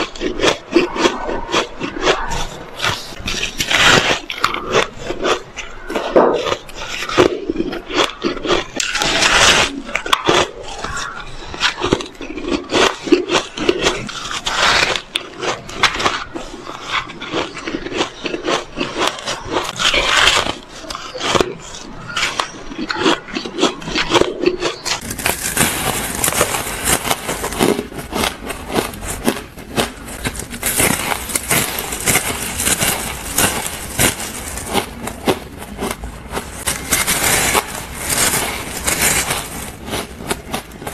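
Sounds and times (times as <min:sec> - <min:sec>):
crunching shaved ice: 0:00.0 - 0:40.9.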